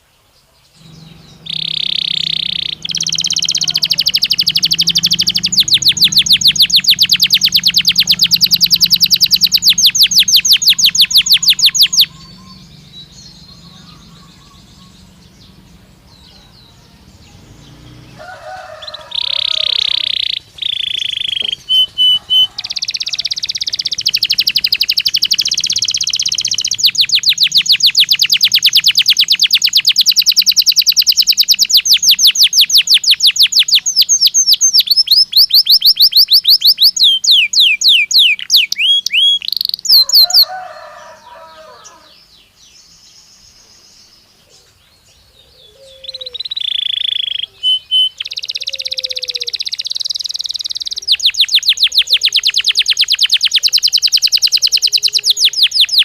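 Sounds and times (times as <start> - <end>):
canary singing trills: 0.0 - 56.0
lower chattering calls: 0.7 - 42.3, 44.4 - 56.0.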